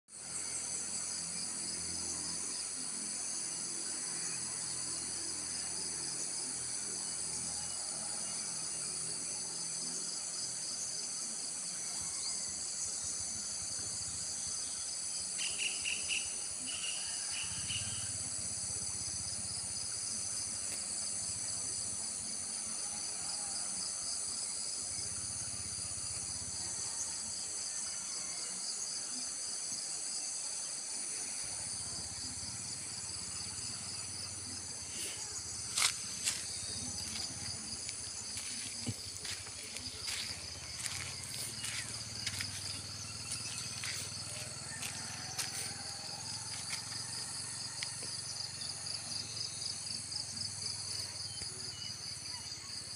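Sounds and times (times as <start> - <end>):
insects trilling: 0.1 - 52.9.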